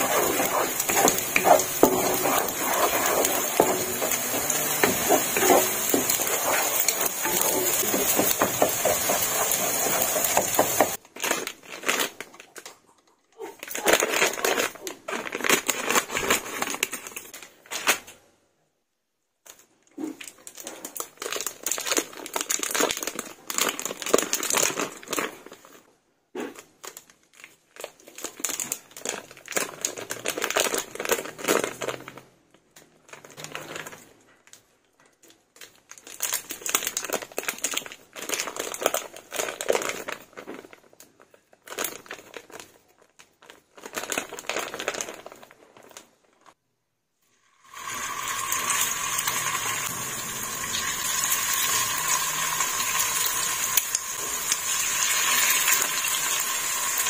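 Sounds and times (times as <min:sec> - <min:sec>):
plastic film crinkling: 0:00.0 - 0:18.2, 0:19.4 - 0:46.6, 0:47.7 - 0:57.0.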